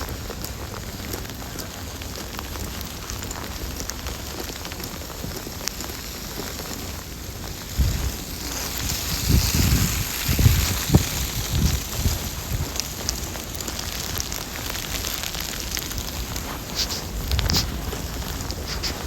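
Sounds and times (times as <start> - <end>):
hiss of falling snow: 0.0 - 19.0
wind buffeting microphone: 0.0 - 19.0.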